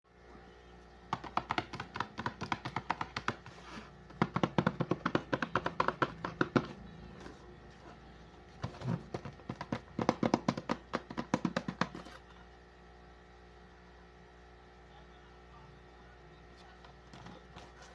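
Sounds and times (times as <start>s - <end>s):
faint steady hum: 0.1s - 17.9s.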